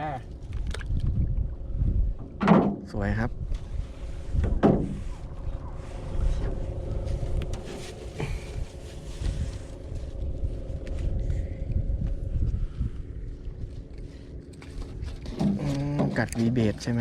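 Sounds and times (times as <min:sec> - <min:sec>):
faint steady hum: 0:00.0 - 0:17.0
uneven low rumble: 0:00.0 - 0:17.0.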